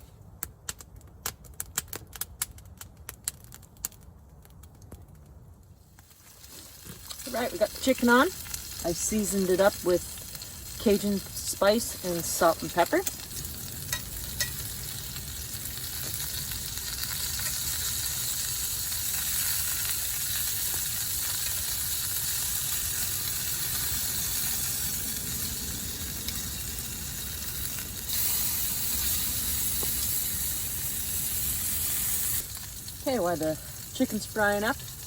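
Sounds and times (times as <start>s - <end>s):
chicken sizzling in a pan: 6.0s - 35.0s.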